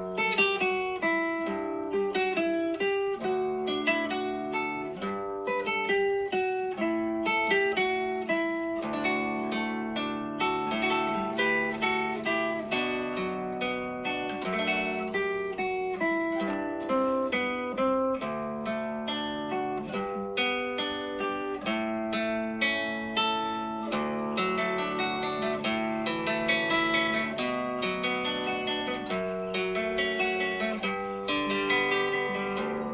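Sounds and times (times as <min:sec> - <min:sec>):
plucked acoustic guitar: 0:00.0 - 0:32.9.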